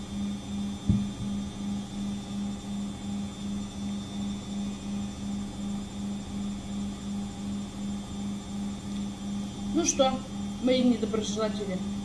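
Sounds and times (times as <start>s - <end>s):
pulsing low electrical hum: 0.0s - 12.0s.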